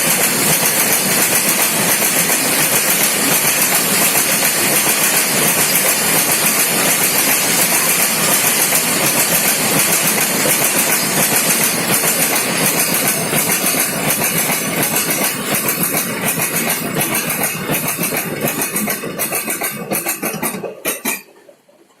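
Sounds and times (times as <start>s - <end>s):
freight wagon wheels clattering: 0.0s - 22.0s.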